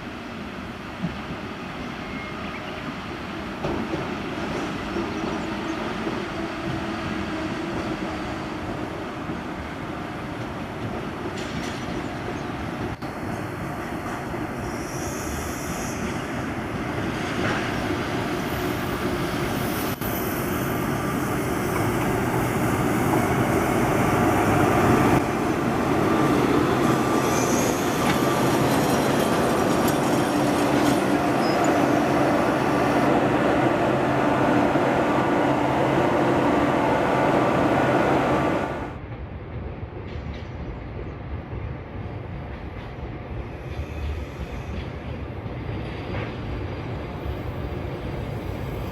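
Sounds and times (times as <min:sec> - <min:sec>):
train wheels on rails: 0:00.0 - 0:48.9.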